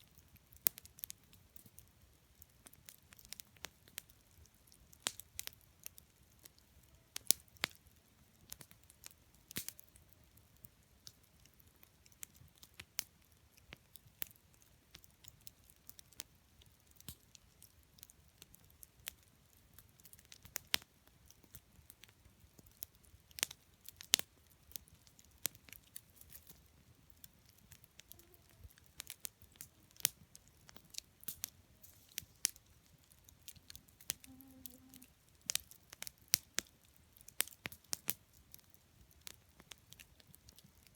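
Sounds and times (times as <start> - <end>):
campfire crackling: 0.0 - 40.9
faint hiss of burning: 0.0 - 40.9.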